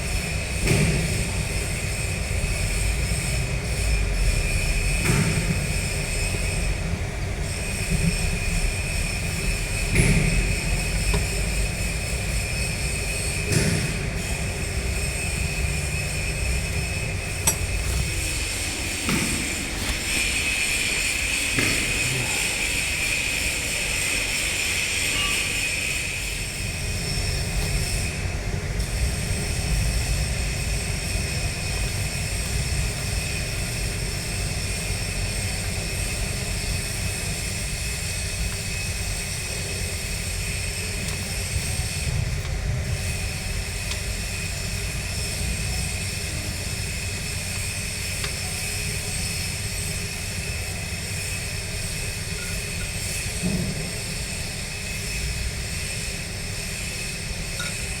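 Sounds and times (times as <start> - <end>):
diesel engine rumbling: 0.0 - 54.6
high engine whine: 0.0 - 58.0.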